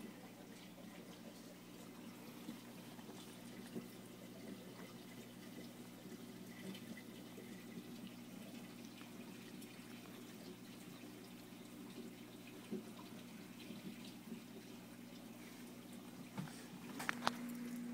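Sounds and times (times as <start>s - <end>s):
aquarium pump hum: 0.0s - 17.9s
trickling dripping water: 0.0s - 17.9s.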